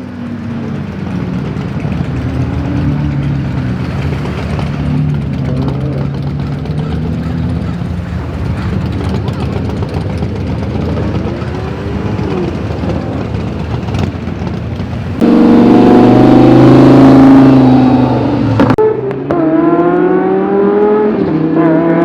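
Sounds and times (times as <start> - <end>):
car engine accelerating: 0.0 - 22.0
gear change: 0.2 - 19.3.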